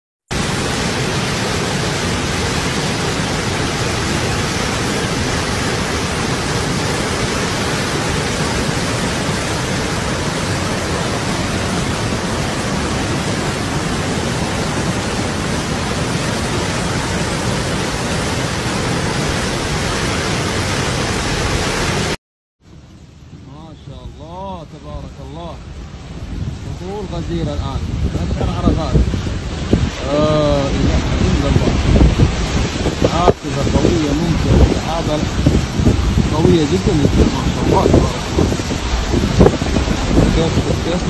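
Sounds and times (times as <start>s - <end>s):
flood torrent rushing: 0.3s - 41.0s
heavy rain: 0.3s - 41.0s.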